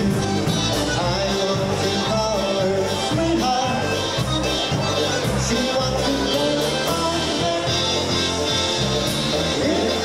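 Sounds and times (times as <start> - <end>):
polka band playing: 0.0 - 10.0.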